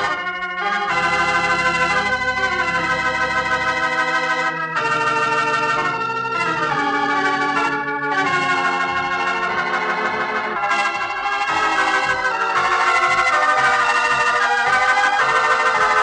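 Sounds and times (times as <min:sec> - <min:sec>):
organ playing full chords: 0:00.0 - 0:16.0.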